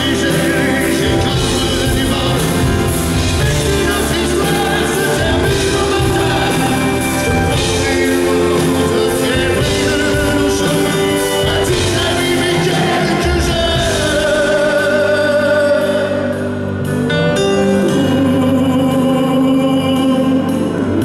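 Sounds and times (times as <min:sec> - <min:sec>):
acoustic guitar: 0:00.0 - 0:21.0
drums: 0:00.0 - 0:21.0
man singing into a microphone: 0:00.0 - 0:21.0.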